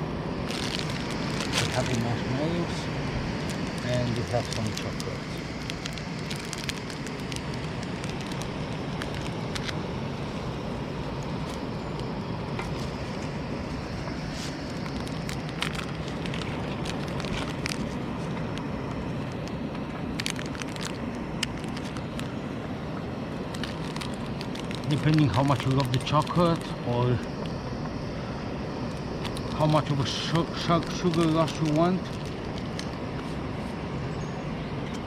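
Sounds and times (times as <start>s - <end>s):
campfire crackling: 0.0s - 33.9s.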